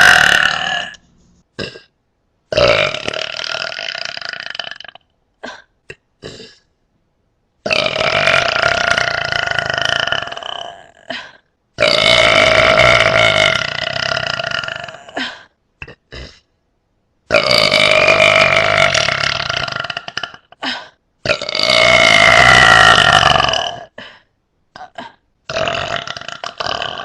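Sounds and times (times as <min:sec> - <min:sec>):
person burping loudly: 0:00.0 - 0:01.0, 0:01.6 - 0:06.7, 0:07.6 - 0:16.5, 0:17.3 - 0:24.0, 0:24.7 - 0:27.0.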